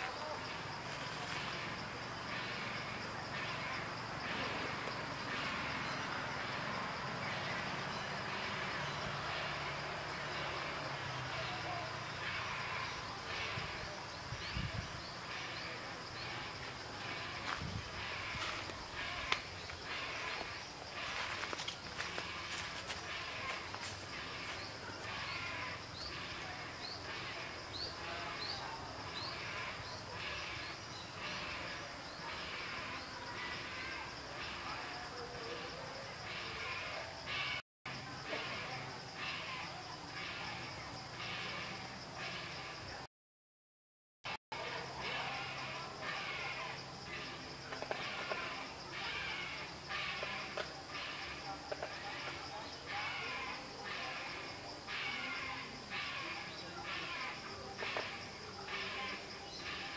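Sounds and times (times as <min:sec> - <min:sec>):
outdoor background noise: 0:00.0 - 0:43.1, 0:44.2 - 0:59.9.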